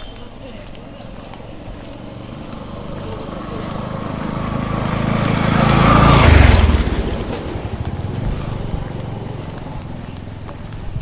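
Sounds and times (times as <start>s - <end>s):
small vehicle driving past: 0.8s - 11.0s.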